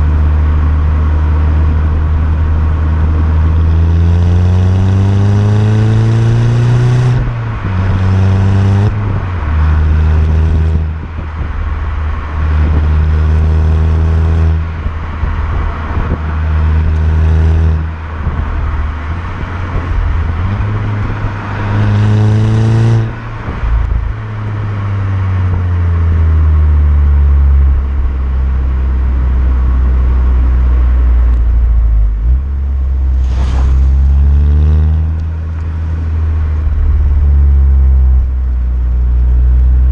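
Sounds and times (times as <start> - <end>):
car engine and exhaust revving: 0.0 - 39.9.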